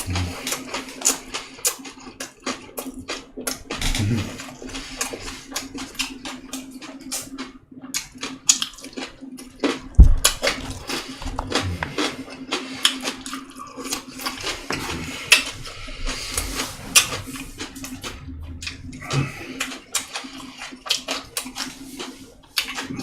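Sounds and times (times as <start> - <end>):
close-up chewing: 0.0 - 23.0
steady low hum: 0.0 - 23.0.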